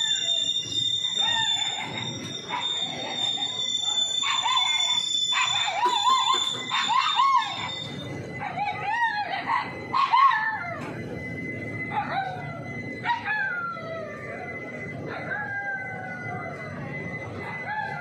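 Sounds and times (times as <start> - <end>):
thin high whine: 0.0 - 17.6
dog yelping and howling: 0.0 - 18.0.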